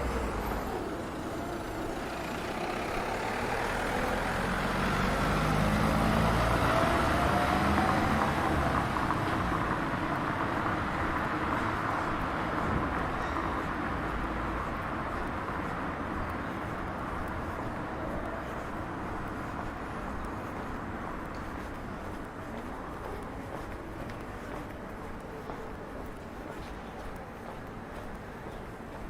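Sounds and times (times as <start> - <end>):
vehicle passing on street: 0.0 - 29.0.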